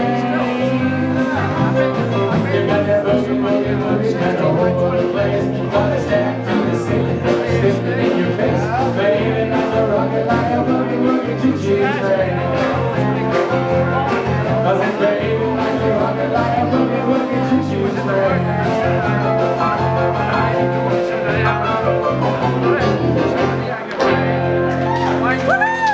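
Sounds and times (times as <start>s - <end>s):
country band playing: 0.0s - 25.9s
guitars: 0.0s - 25.9s.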